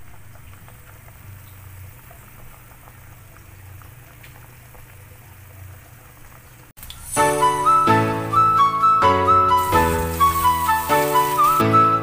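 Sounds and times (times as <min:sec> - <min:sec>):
pot boiling and bubbling: 0:00.0 - 0:12.0.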